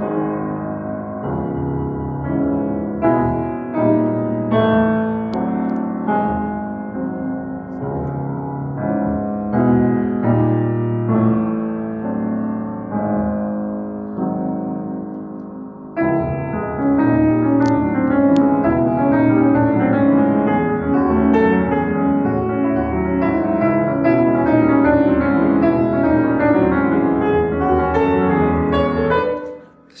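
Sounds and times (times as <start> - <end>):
grand piano playing: 0.0 - 30.0.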